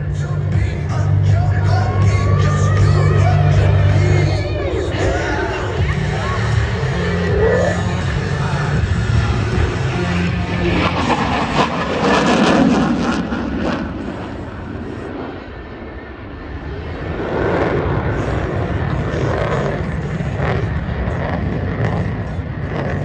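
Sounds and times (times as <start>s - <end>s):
jet engine roar overhead: 0.0s - 23.0s.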